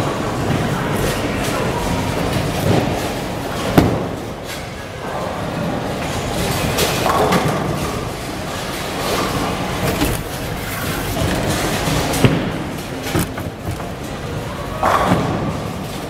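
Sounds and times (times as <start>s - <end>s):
bowling alley noise: 0.0s - 16.0s.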